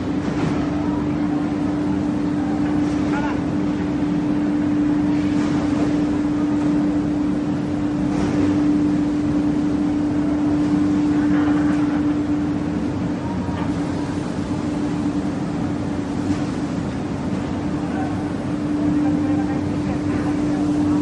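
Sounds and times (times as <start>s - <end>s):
machinery drone: 0.0s - 21.0s.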